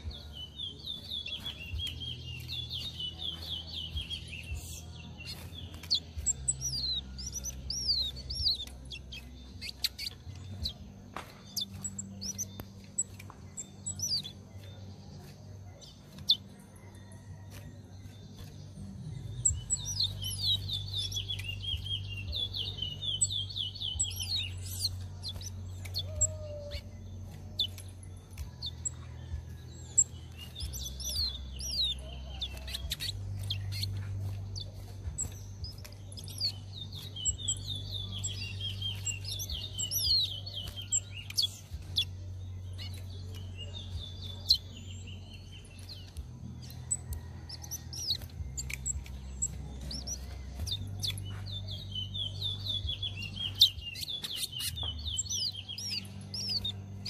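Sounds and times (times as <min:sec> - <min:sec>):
bird chirps and clicks: 0:00.0 - 0:57.0.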